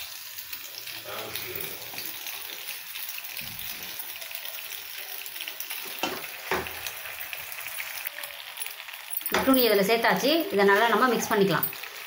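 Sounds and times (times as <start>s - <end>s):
pasta hissing in hot oil: 0.0s - 12.0s.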